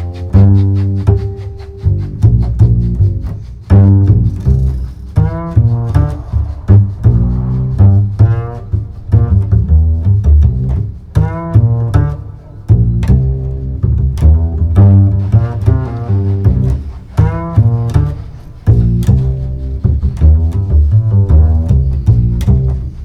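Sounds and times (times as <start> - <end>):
low string instrument music: 0.0 - 23.0.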